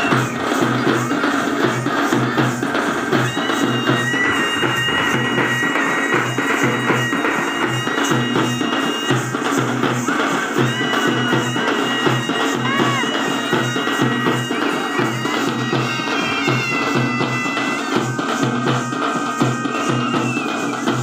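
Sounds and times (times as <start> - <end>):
frame drums beating: 0.0 - 21.0.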